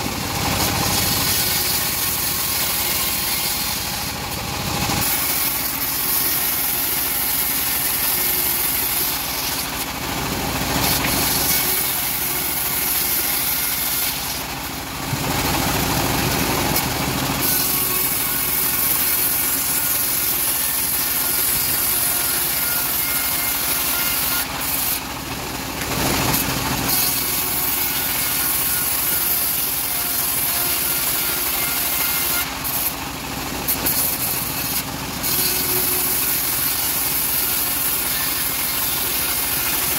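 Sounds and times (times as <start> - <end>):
engine drone: 0.0 - 39.9
saw blade hissing through wood: 0.0 - 39.9.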